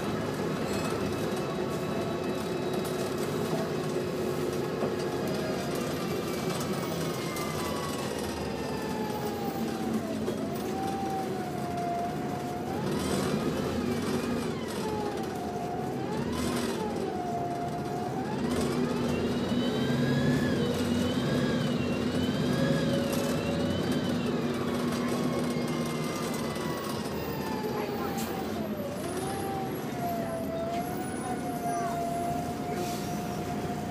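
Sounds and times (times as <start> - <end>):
bus engine running: 0.0 - 33.9.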